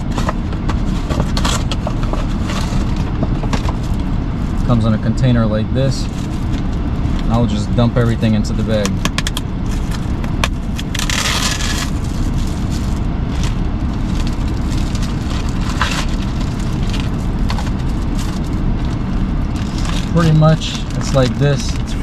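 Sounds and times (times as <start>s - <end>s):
plastic bag crinkling: 0.0s - 9.0s, 9.6s - 22.0s
low rumble: 0.0s - 22.0s.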